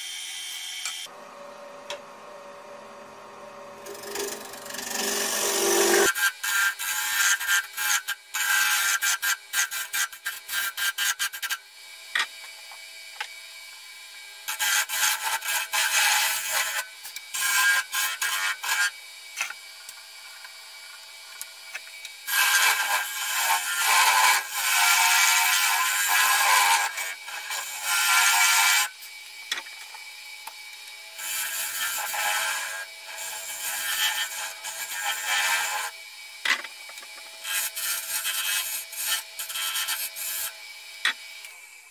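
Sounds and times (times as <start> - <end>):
lathe tool cutting wood: 0.2 - 11.9, 14.1 - 30.4, 31.0 - 41.7.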